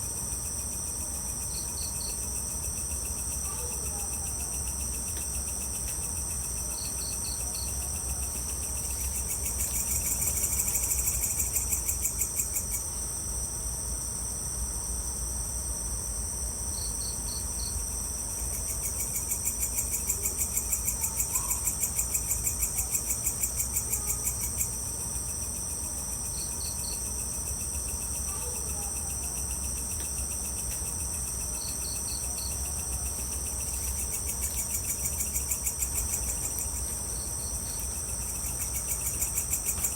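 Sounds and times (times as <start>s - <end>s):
crickets trilling: 0.0s - 39.9s
rapidly pulsing insect call: 0.0s - 39.9s.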